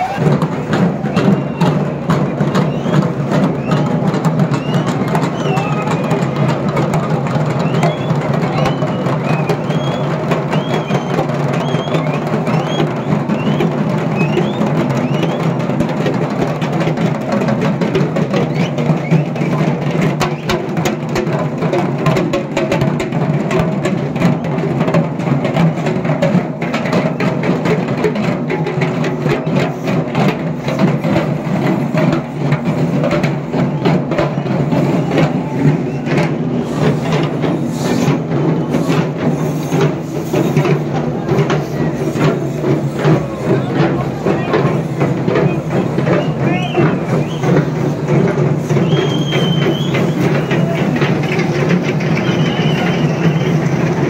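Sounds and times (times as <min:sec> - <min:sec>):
procession drums and percussion: 0:00.0 - 0:54.0.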